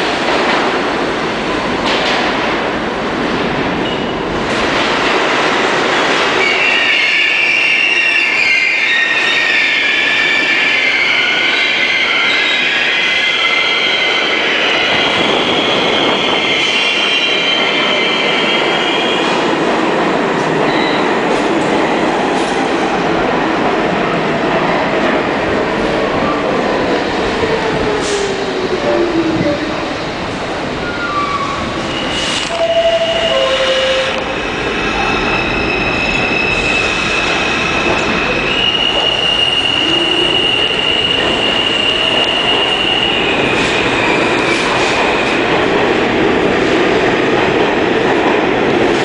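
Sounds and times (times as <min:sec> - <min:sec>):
train wheels rumbling on rail: 0:00.0 - 0:07.5, 0:09.1 - 0:49.0.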